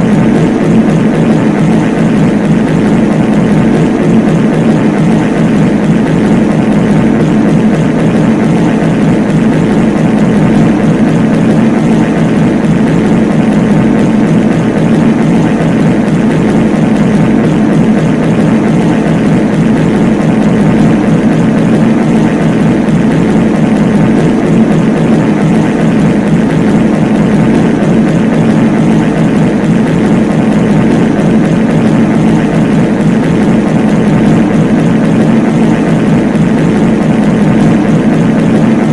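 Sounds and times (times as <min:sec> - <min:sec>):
layered fart sounds deep rumble: 0:00.0 - 0:38.9.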